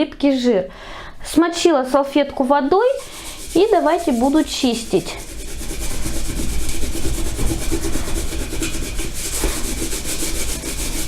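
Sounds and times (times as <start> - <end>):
damp cloth scrubbing a kettle: 1.3 - 11.0.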